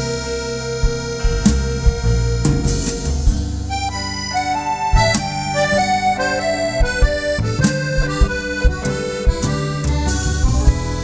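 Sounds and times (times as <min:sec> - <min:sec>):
accordion jazz melody: 0:00.0 - 0:11.0
plucked double bass: 0:00.0 - 0:11.0
drum kit hits: 0:00.8 - 0:11.0.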